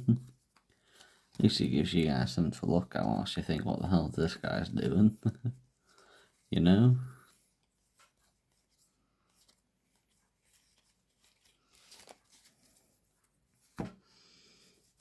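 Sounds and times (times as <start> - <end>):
trading cards rustling: 0.1 - 14.0.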